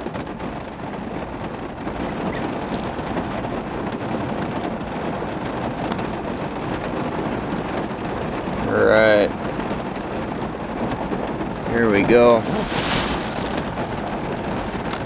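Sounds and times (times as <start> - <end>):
rain on a truck roof: 0.0 - 15.0.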